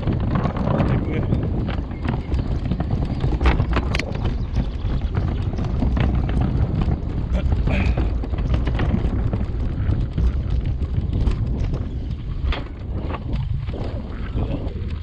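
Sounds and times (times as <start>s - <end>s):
footsteps on wooden planks: 0.0s - 15.0s
wind rumble on microphone: 0.0s - 15.0s.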